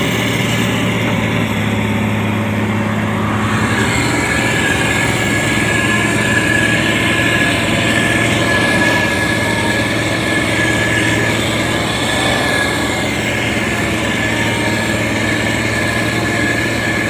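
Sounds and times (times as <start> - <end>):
diesel engine droning: 0.0 - 17.0
steady high whine: 0.0 - 17.0.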